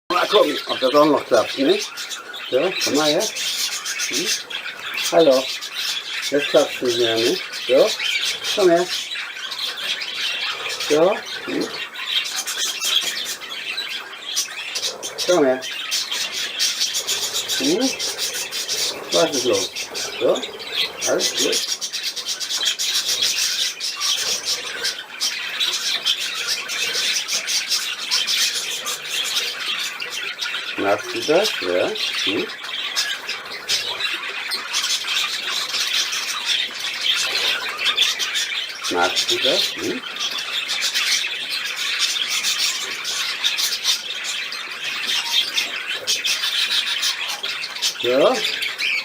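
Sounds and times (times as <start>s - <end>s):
budgerigar chattering: 0.1s - 49.0s.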